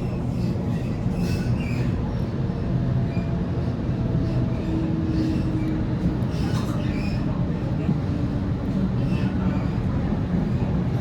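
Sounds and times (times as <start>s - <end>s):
electric train rumble from inside: 0.0s - 11.0s.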